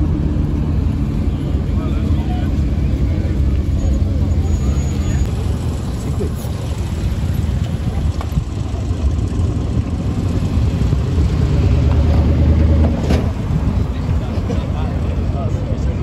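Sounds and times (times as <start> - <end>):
pickup truck engine rumble: 0.0 - 16.0.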